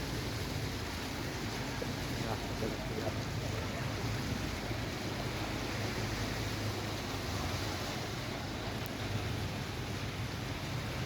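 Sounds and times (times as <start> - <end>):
low engine hum: 0.0 - 11.0
traffic on flooded road: 0.0 - 11.0.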